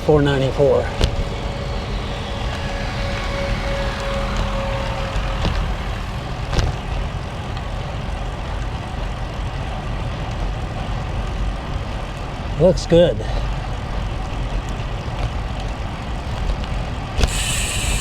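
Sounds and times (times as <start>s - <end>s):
wind buffeting microphone: 0.0s - 12.6s, 13.4s - 18.0s.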